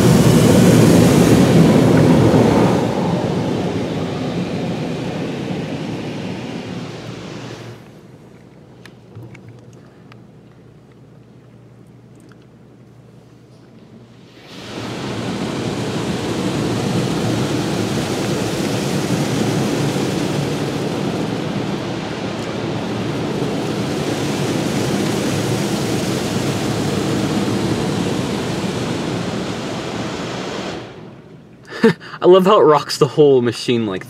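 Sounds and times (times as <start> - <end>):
car wash water jets blasting: 0.0 - 12.8, 13.8 - 31.6.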